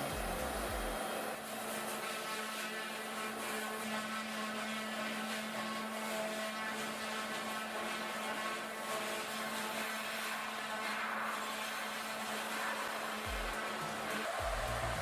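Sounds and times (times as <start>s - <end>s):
machine humming with whine: 0.0s - 15.0s.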